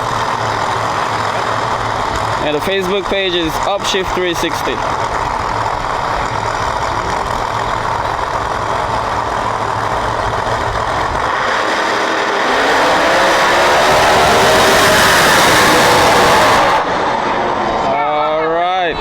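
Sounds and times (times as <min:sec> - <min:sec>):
drag race car engines running: 0:00.0 - 0:19.0.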